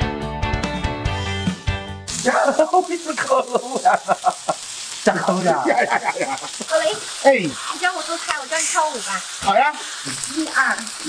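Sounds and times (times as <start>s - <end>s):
meat sizzling on griddle: 2.0s - 11.0s.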